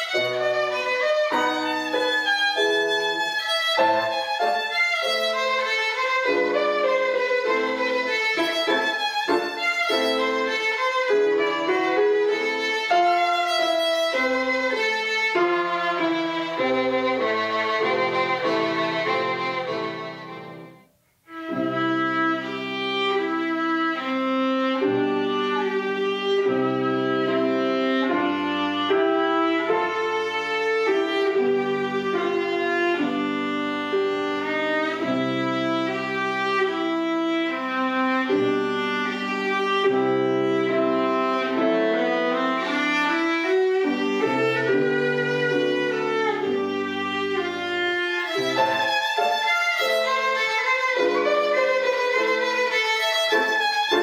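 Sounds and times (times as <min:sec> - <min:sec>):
piano accompaniment: 0:00.0 - 0:54.0
viola playing bowed melody: 0:00.0 - 0:54.0
violin: 0:00.0 - 0:54.0.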